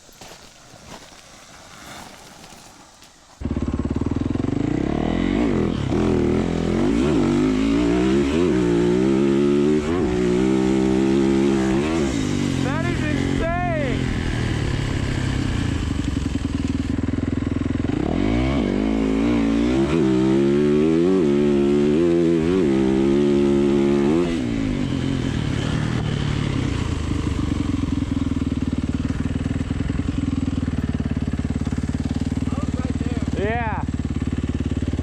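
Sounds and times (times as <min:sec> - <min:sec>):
dirt bike engine idling and revving: 0:00.0 - 0:35.0.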